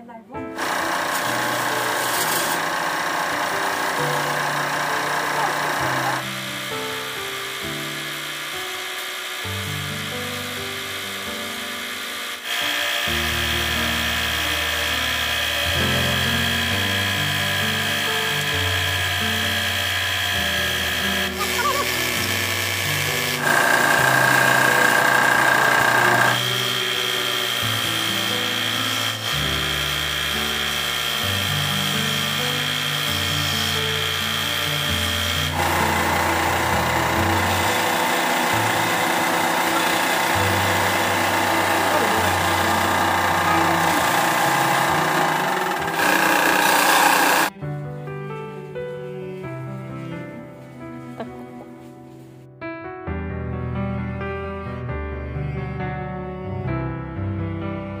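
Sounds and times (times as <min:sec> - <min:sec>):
wood lathe high whine: 0:00.6 - 0:47.6.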